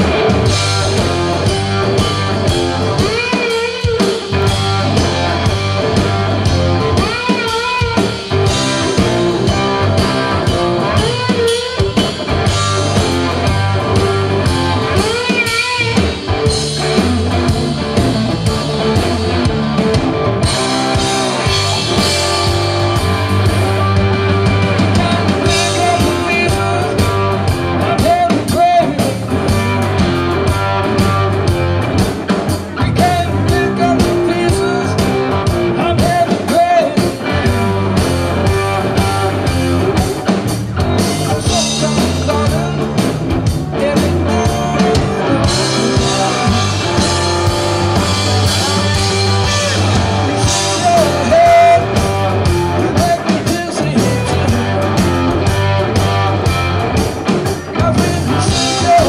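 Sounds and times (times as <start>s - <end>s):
electric slide guitar: 0.0s - 59.0s
live blues-rock band playing: 0.0s - 59.0s.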